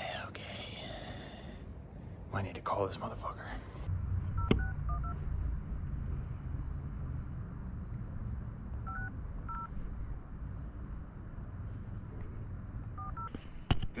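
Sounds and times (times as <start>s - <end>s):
low steady background rumble: 0.0s - 14.0s.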